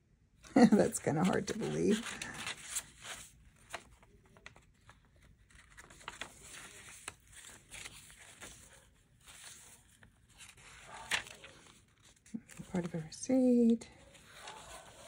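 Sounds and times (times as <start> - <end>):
paper pages rustling: 0.6 - 15.0.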